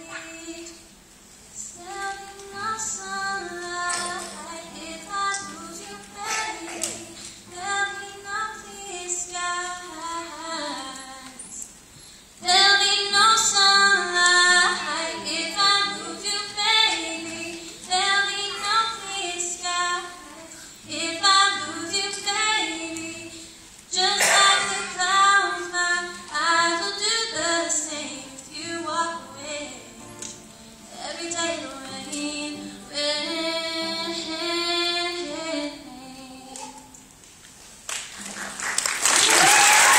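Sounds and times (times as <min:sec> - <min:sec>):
girl singing a ballad: 0:00.0 - 0:01.0, 0:01.6 - 0:37.2
acoustic guitar: 0:00.0 - 0:38.9.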